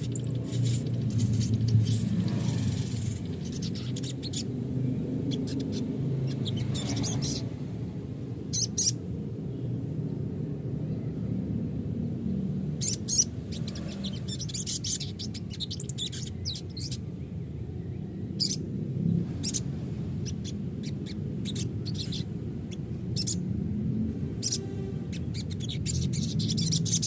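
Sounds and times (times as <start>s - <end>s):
bird chirps and trills: 0.0s - 7.6s, 8.5s - 9.0s, 12.7s - 23.6s, 24.2s - 27.0s.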